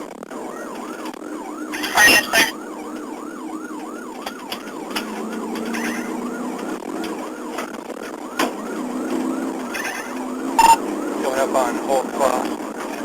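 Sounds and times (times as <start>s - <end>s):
car running noise: 0.0s - 13.0s
police siren yelping: 0.1s - 13.0s.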